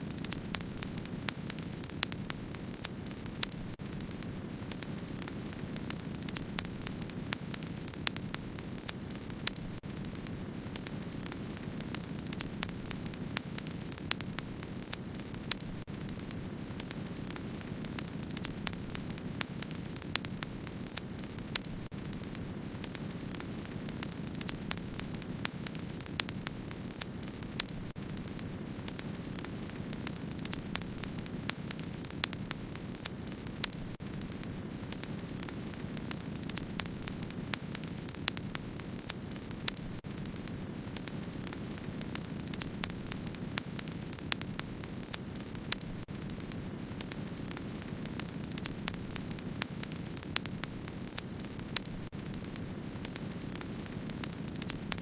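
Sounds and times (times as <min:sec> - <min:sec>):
wood fire rumbling and crackling: 0:00.0 - 0:55.0.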